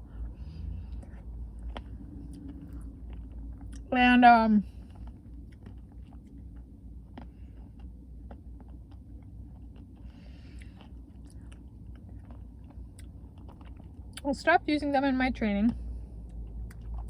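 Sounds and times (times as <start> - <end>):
chewing crunchy ice cream: 0.0 - 14.6, 16.1 - 17.0.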